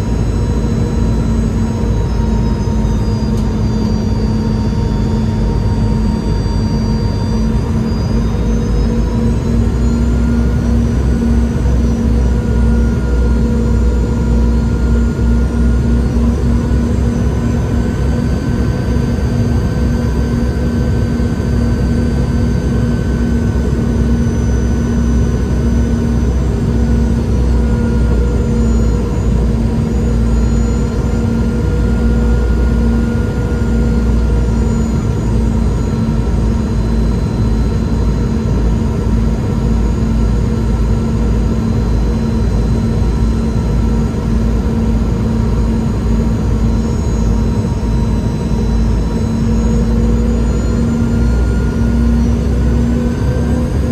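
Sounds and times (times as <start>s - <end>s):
jet engine roar from cabin: 0.0s - 53.9s
wavering engine whine: 0.0s - 53.9s.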